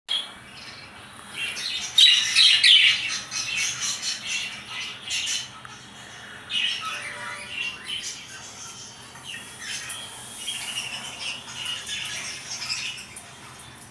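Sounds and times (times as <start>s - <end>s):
birds chirping and squawking: 0.1s - 13.9s.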